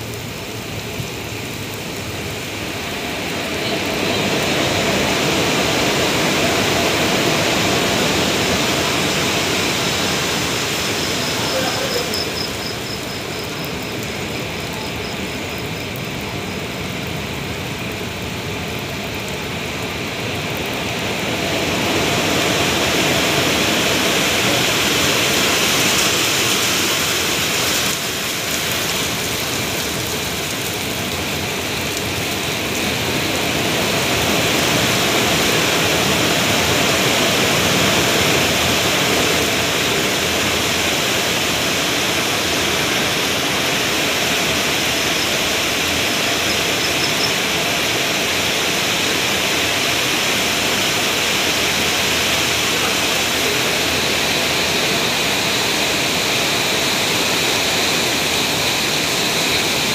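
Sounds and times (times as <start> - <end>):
heavy rain hissing: 0.0 - 59.9
train running: 2.6 - 16.7, 20.7 - 59.9.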